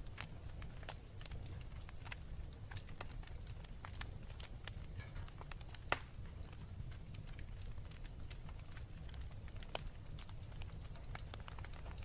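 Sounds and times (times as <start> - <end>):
fire pops and snaps: 0.0 - 12.0
low rumble of burning logs: 0.0 - 12.0.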